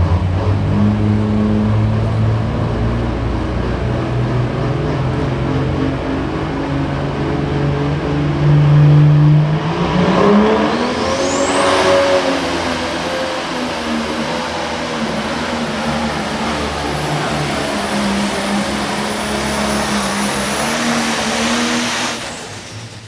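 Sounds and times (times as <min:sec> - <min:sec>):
diesel engine running hard: 0:00.0 - 0:23.0
high turbo whine: 0:00.0 - 0:23.0.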